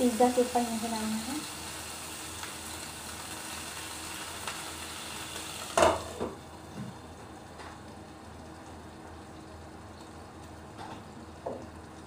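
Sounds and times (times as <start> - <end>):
water sizzling in a hot pan: 0.0 - 12.0.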